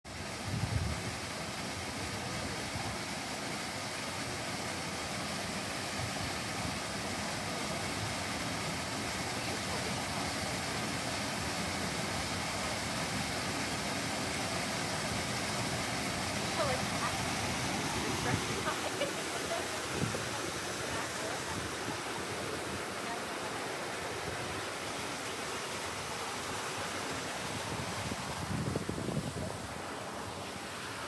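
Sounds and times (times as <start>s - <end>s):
waterfall rushing: 0.1s - 31.0s.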